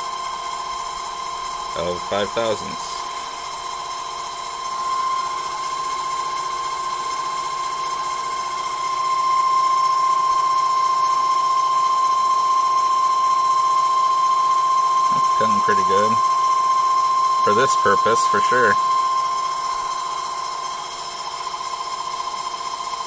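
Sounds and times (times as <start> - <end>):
lathe high-pitched whine: 0.0 - 23.0.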